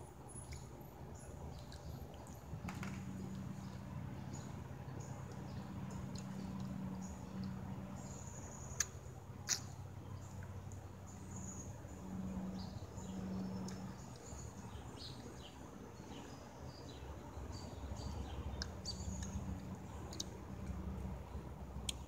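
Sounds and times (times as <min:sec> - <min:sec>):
faint low hum: 0:00.0 - 0:22.0
small birds chirping: 0:00.0 - 0:22.0.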